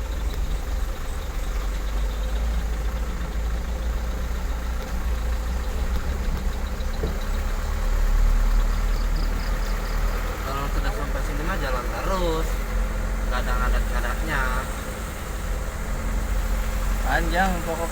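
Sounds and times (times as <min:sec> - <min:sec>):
vehicle engine rumbling: 0:00.0 - 0:17.9.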